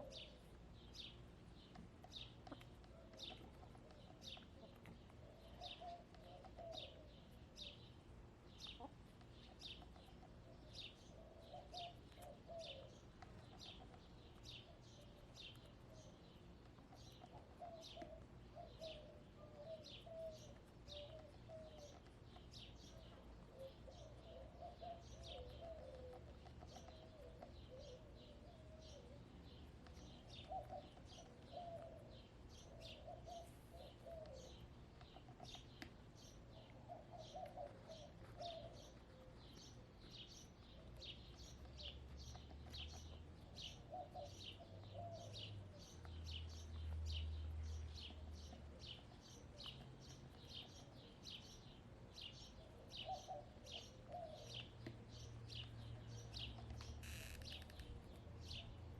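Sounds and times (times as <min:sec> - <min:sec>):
small bird chirping: 0:00.0 - 0:58.9.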